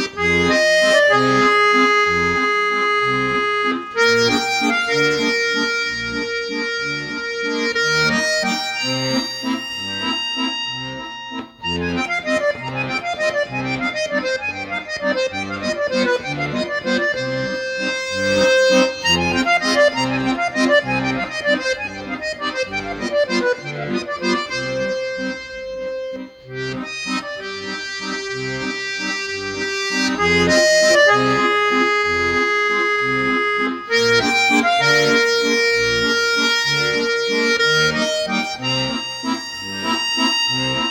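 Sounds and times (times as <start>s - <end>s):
button accordion playing a waltz: 0.0s - 40.9s.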